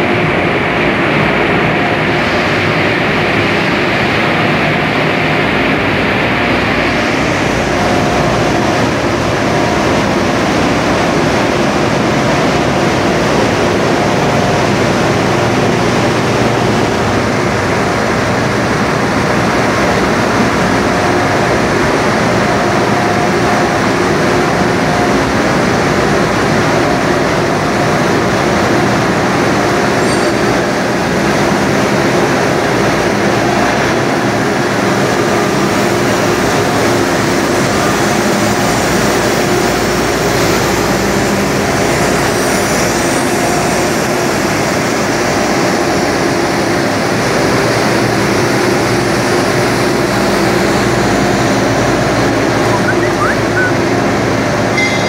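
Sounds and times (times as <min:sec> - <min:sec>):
industrial furnace rushing noise: 0:00.0 - 0:55.0
steady machine hums: 0:00.0 - 0:55.0.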